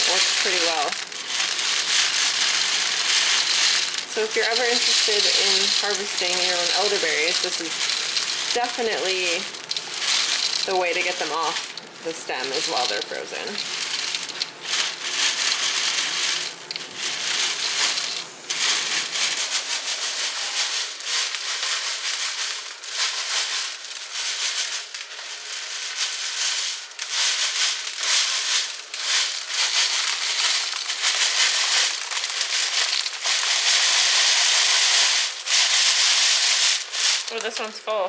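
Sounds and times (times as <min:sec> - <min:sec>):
stems scraping over mesh: 0:00.0 - 0:25.7, 0:26.5 - 0:38.0
berries rattling through metal mesh: 0:00.0 - 0:38.0.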